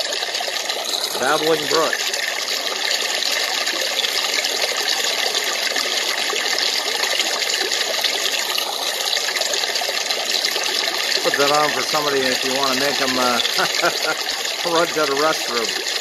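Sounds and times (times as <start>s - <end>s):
running water trickle from speaker: 0.0s - 16.0s.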